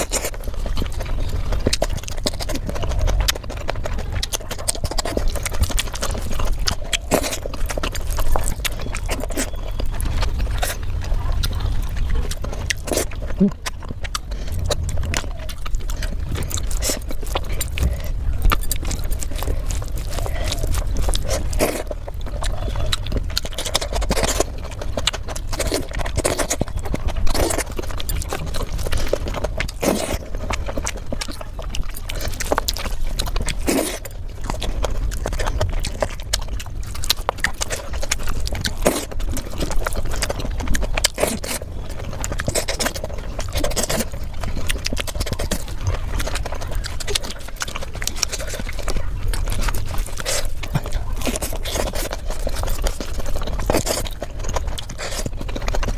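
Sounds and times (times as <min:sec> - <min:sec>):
chewing and mouth smacking: 0:00.0 - 0:55.9
steady low rumble: 0:00.0 - 0:55.9.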